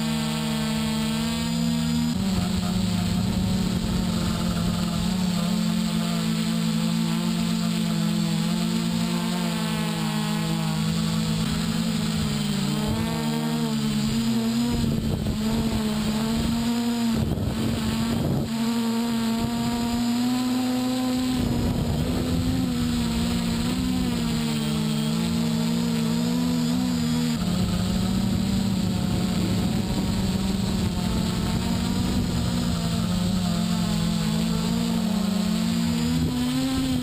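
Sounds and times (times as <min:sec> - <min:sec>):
drone propellers whining: 0:00.0 - 0:37.0
rushing noise bursts: 0:00.0 - 0:37.0.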